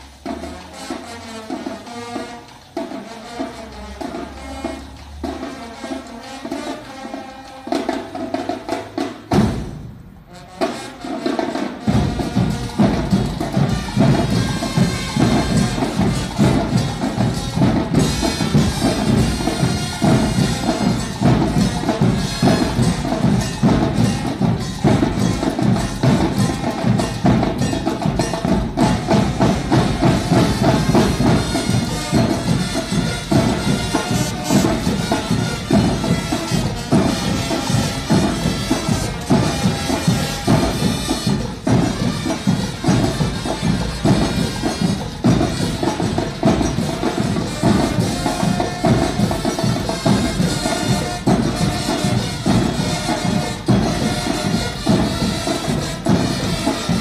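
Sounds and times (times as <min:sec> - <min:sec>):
drums beating fast: 0:00.0 - 0:06.8, 0:07.7 - 0:57.0
drum and bugle band march: 0:00.0 - 0:57.0.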